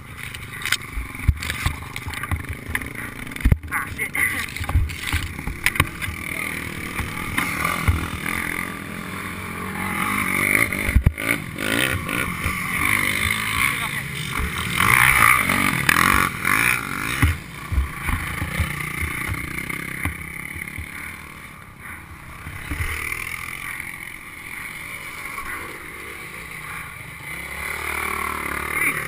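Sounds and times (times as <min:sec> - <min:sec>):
dirt bike engines running: 0:00.0 - 0:29.0.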